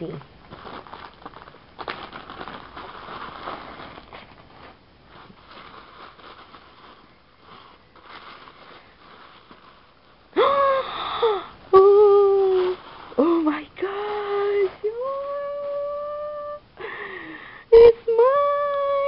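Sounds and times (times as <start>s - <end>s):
plastic bag and paper rustling: 0.0s - 16.6s.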